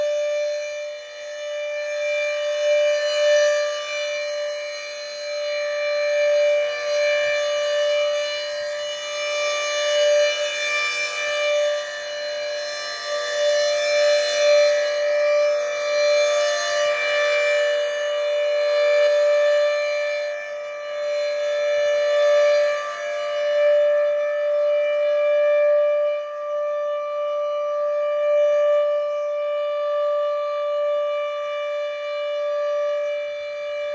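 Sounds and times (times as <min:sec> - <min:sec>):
tornado siren steady tone: 0:00.0 - 0:33.9.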